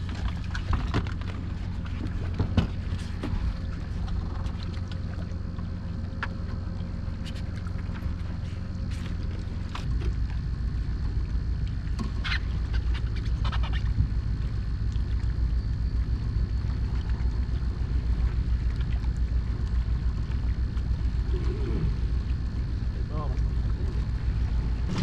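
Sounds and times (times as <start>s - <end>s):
outboard motor idling: 0.0s - 25.0s.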